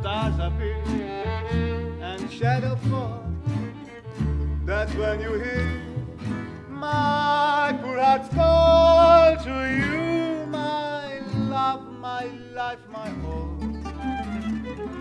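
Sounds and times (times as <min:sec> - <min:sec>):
man singing with vibrato: 0:00.0 - 0:03.4, 0:04.6 - 0:13.8
acoustic guitars: 0:00.0 - 0:15.0
double bass: 0:00.0 - 0:15.0.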